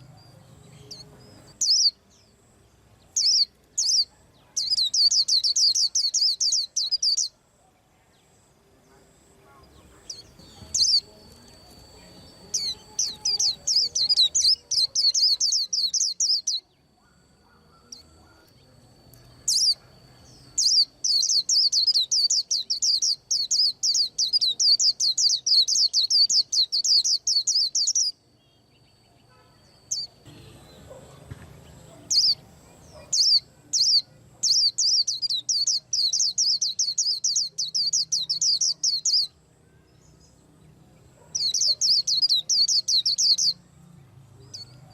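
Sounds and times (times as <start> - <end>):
bird singing rapid high chirps: 0.0 - 7.4, 9.7 - 39.4, 41.2 - 43.6.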